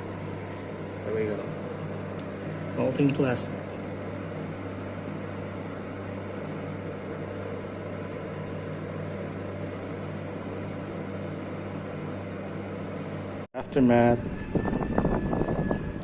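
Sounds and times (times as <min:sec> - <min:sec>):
electric fan whirring: 0:00.0 - 0:16.0.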